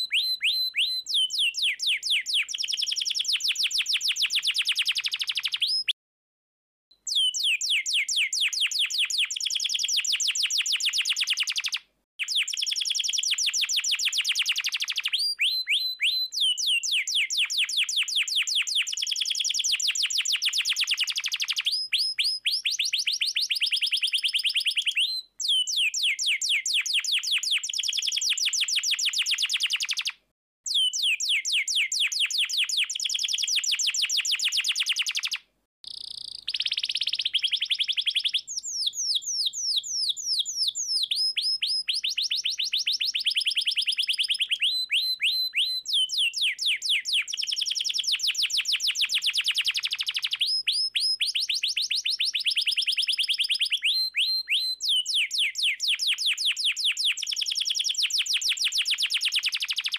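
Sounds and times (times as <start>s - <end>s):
canary singing rapid trills: 0.0s - 6.0s, 7.1s - 59.9s.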